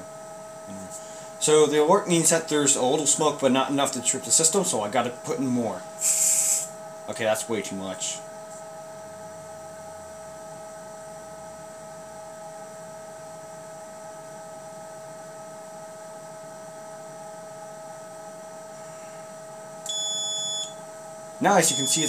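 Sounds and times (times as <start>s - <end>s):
fan humming with hiss: 0.0s - 22.0s.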